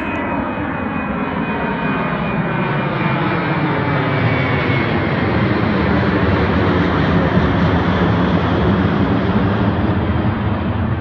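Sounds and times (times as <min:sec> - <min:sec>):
jet airliner passing overhead: 0:00.0 - 0:11.0.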